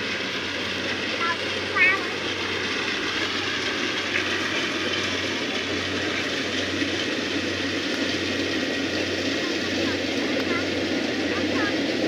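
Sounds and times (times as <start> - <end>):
combine harvester engine running: 0.0 - 12.0.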